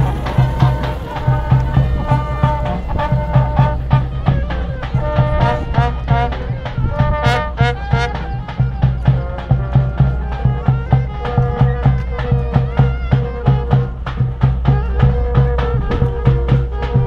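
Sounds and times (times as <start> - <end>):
brass band music: 0.0 - 17.0
trumpets playing melody: 0.0 - 17.0.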